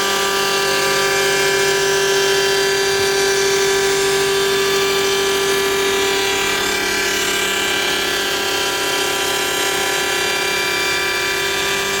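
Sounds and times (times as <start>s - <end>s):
machine whining: 0.0s - 12.0s.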